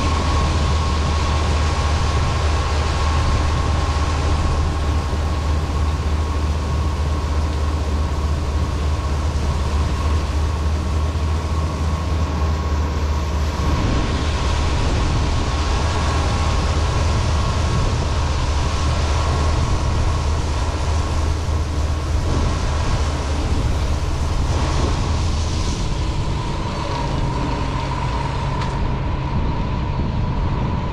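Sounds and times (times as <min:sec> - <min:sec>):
diesel engine drone: 0:00.0 - 0:30.9
high whine: 0:00.0 - 0:30.9.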